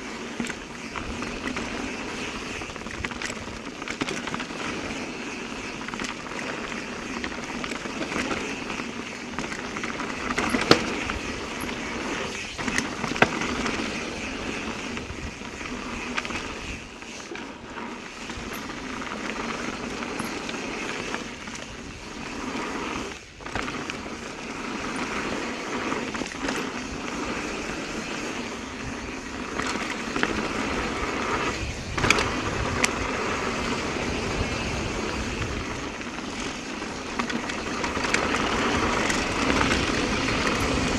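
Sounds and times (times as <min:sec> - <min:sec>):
bike rattling and knocking: 0:00.0 - 0:40.9
bike tyre and wind noise: 0:00.0 - 0:40.9.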